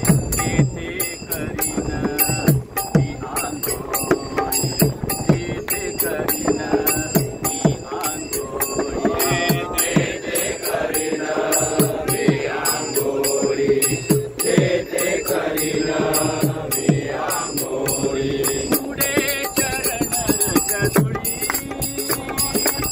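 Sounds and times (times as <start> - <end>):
man singing: 0.0 - 22.9
small hand cymbals: 0.0 - 22.9
voices chanting: 0.0 - 22.9.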